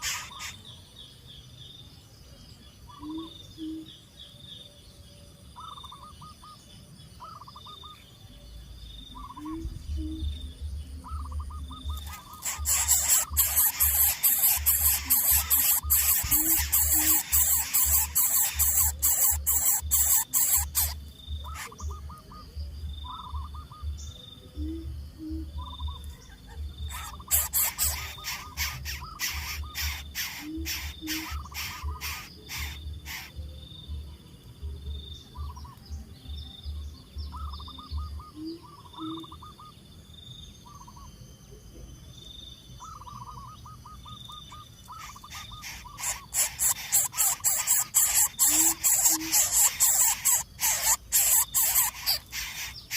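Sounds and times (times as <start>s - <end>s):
trilled bird calls: 0.0s - 1.2s, 2.8s - 4.7s, 5.5s - 34.1s, 35.0s - 39.8s, 40.5s - 41.2s, 42.8s - 52.9s
faint pulsing insect tone: 0.0s - 52.9s.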